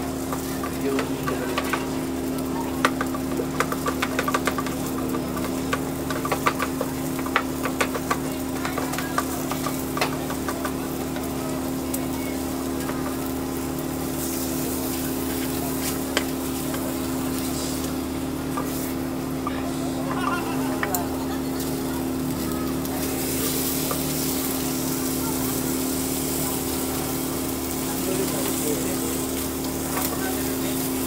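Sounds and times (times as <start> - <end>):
light sizzling: 0.0 - 31.0
steady hum: 0.0 - 31.0.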